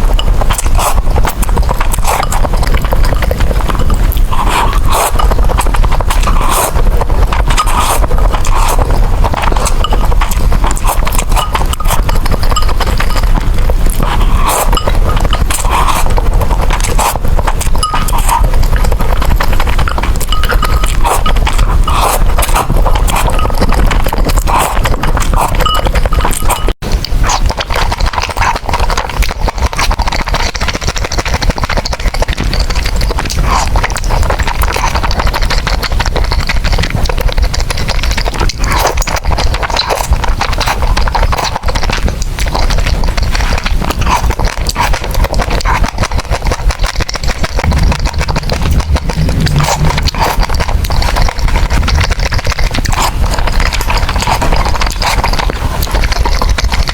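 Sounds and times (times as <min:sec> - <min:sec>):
person eating noodles: 0:00.0 - 0:56.9.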